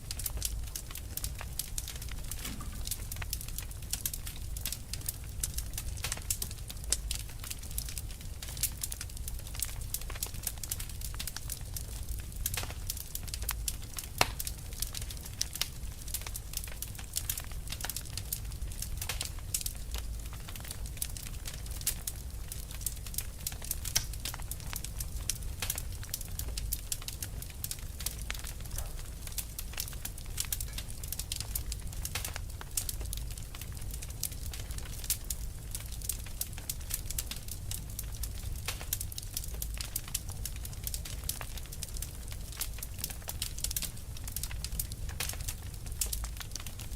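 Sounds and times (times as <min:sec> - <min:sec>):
fire crackling: 0:00.0 - 0:46.9.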